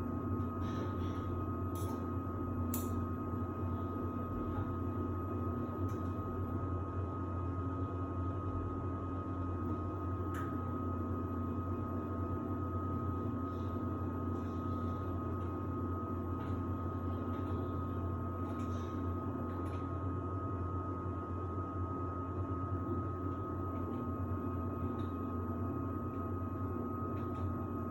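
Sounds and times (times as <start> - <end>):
thin steady whine: 0.0 - 27.9
washer-dryer humming: 0.0 - 27.9.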